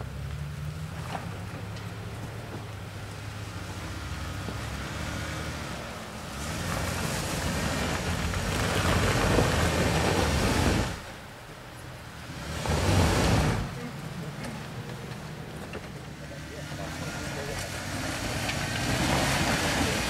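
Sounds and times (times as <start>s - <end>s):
off-road vehicle engine running: 0.0s - 20.0s
tyres rushing on dirt: 0.0s - 20.0s.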